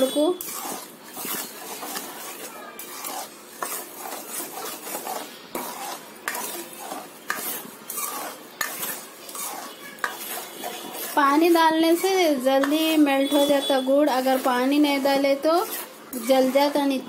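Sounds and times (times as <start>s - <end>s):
metal spoon scraping a pan: 0.0s - 17.0s.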